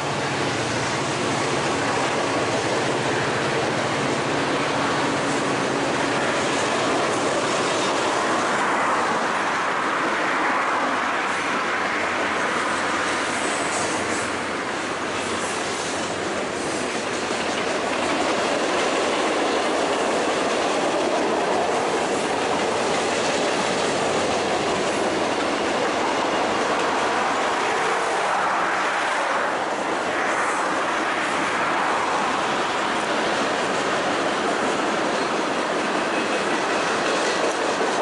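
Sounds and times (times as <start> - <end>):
steel wheels running on rails: 0.0 - 38.0.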